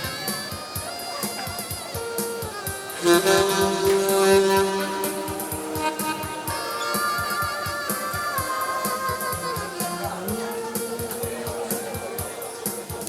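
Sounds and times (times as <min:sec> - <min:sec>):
upbeat trot music: 0:00.0 - 0:13.0.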